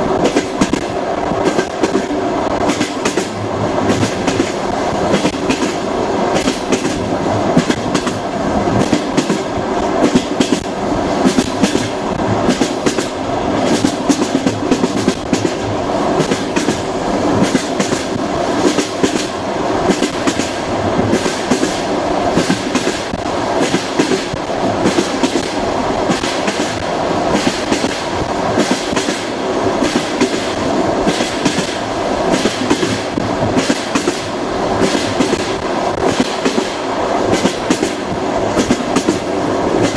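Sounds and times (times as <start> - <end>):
train rumbling running noise: 0.0 - 39.9
train wheels clacking over rail joints: 0.2 - 39.9.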